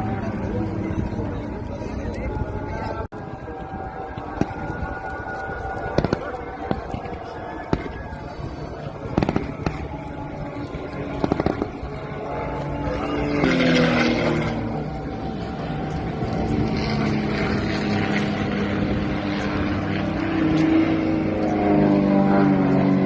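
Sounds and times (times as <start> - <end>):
aircraft engines flying past: 0.0 - 23.0.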